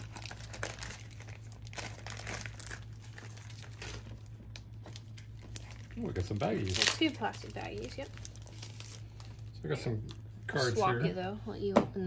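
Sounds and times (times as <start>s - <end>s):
plastic bags crinkling: 0.0s - 10.2s.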